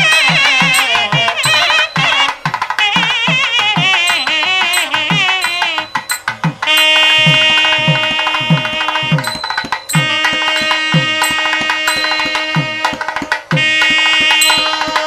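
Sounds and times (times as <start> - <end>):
long held melodic notes: 0.0 - 2.5, 4.0 - 13.2, 13.9 - 15.0.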